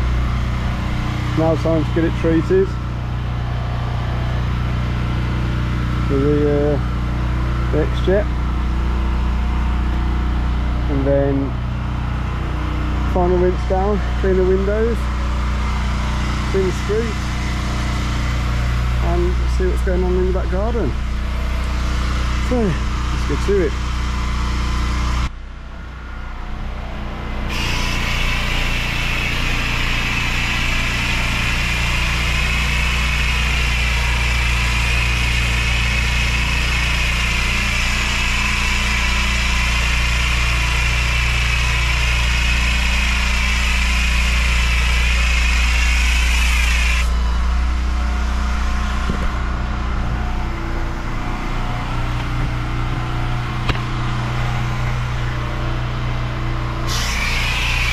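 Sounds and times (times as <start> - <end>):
sprayer hissing: 0.0 - 8.2, 12.8 - 24.8, 27.2 - 49.0, 49.9 - 56.1, 56.8 - 57.9
pressure washer engine running: 0.0 - 57.9.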